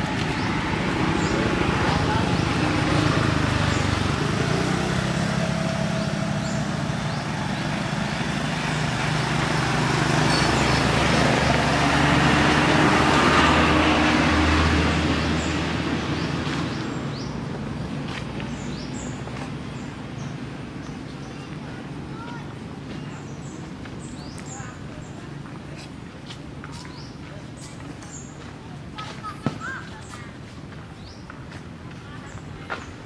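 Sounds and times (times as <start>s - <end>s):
vehicle engine and tyres passing: 0.0s - 33.0s.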